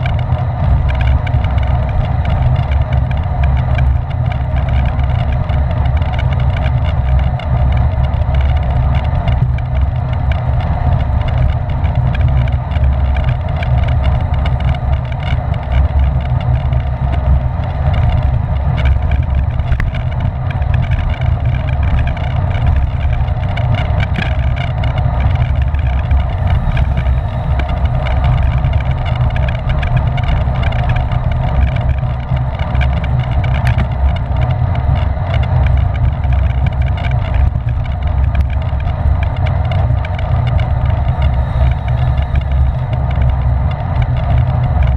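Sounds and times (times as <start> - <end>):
wind rumbling on microphone: 0.0 - 44.9.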